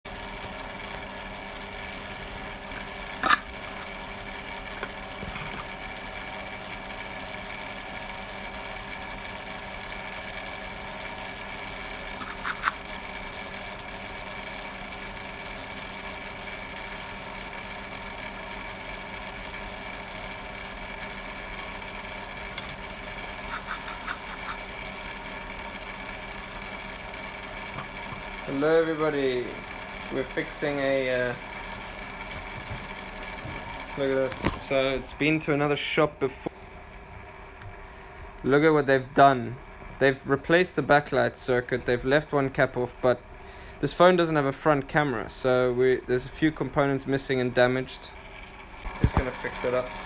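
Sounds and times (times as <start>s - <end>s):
steady machine hum: 0.1s - 46.2s.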